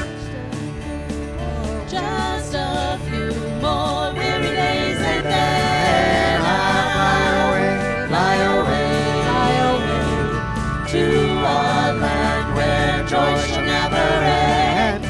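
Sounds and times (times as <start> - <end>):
acoustic instruments playing: 0.0 - 15.0
voices singing with vibrato: 1.3 - 15.0.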